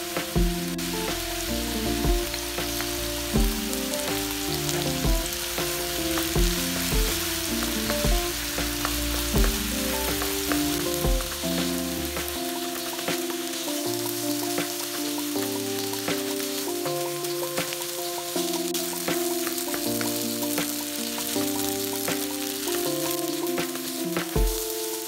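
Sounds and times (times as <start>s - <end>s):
rice sizzling in a wok: 0.0s - 25.0s
soft background music: 0.0s - 25.0s.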